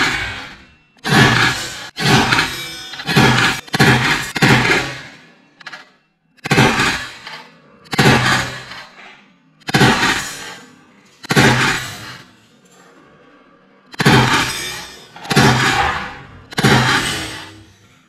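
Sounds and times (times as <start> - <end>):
loud ringing bangs: 0.0 - 5.8, 6.4 - 9.0, 9.6 - 12.4, 13.9 - 17.9.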